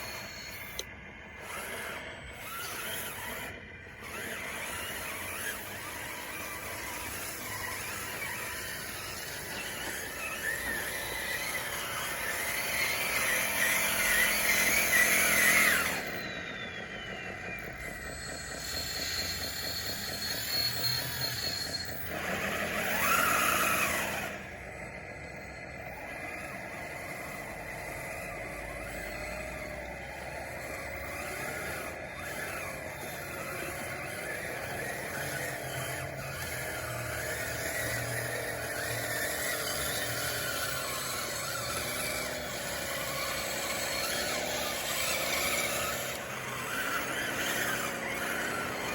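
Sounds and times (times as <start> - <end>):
electric motors whining: 0.0 - 48.9
grinding surges: 0.0 - 48.9.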